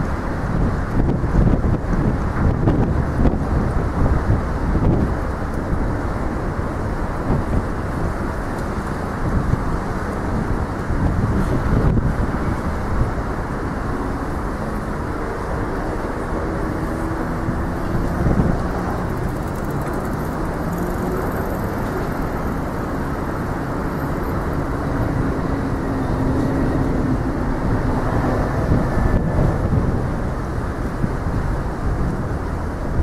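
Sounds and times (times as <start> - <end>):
city road traffic: 0.0 - 33.0.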